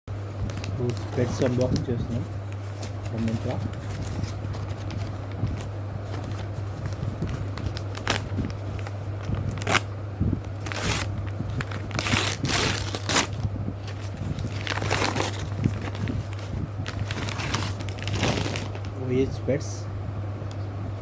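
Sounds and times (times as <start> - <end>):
packaging crinkling and tearing: 0.4 - 9.9, 10.5 - 19.0.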